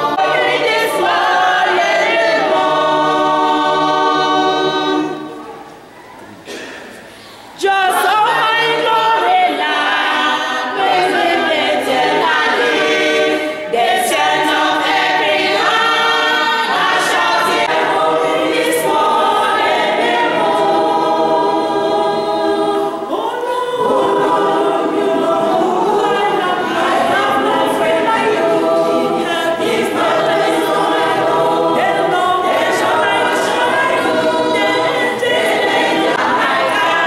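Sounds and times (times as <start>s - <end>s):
choir singing a cappella: 0.0s - 6.7s, 7.5s - 37.0s.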